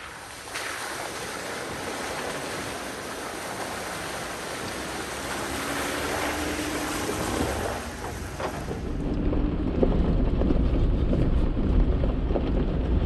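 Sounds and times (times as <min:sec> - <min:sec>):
tyres rushing on dirt: 0:00.0 - 0:13.0
wind: 0:00.0 - 0:13.0.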